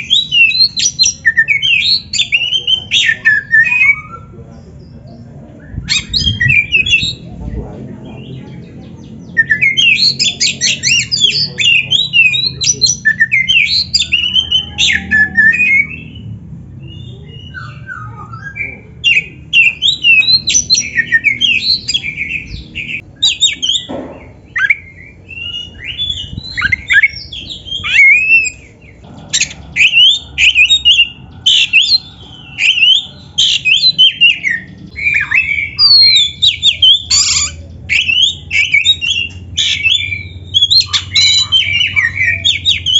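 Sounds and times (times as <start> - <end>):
bird singing rapid varied song: 0.0 - 42.9.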